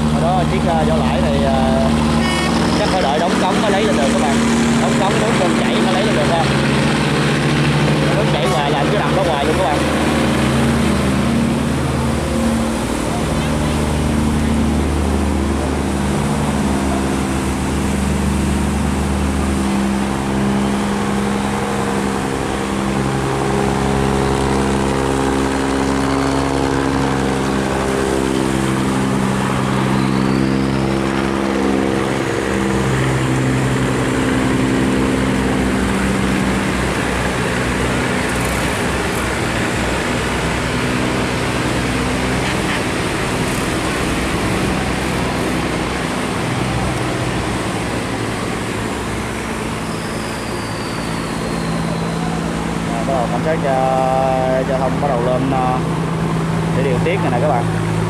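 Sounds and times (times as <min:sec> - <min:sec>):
boat engines humming: 0:00.0 - 0:58.0
steady rushing noise: 0:00.0 - 0:58.0.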